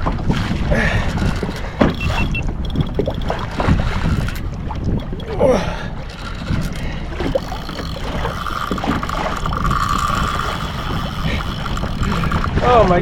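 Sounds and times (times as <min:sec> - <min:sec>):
water against hull: 0:00.0 - 0:13.0
wind buffeting microphone: 0:00.0 - 0:13.0
steady whine: 0:01.1 - 0:13.0.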